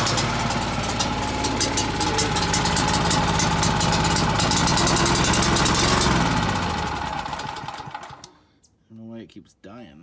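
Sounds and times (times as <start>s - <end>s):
generator engine running: 0.0s - 8.3s.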